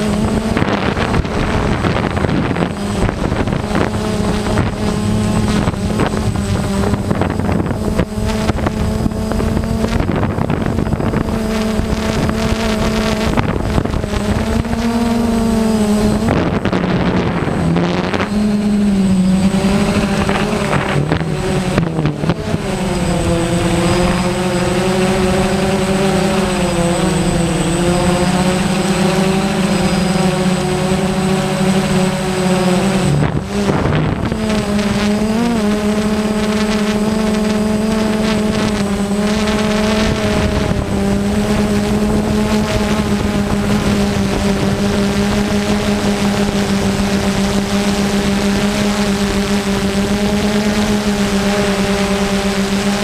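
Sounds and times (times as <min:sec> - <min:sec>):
drone propellers whining: 0:00.0 - 0:53.0.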